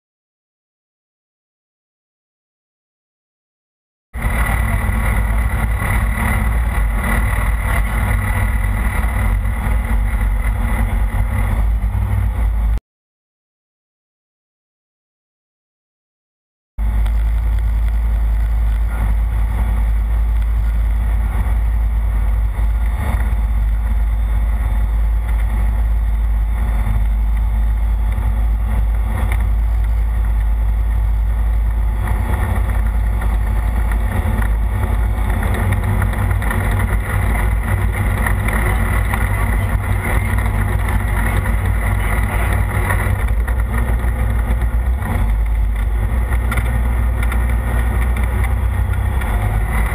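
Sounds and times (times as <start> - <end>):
airplane engine droning: 4.2 - 12.8, 16.8 - 49.9.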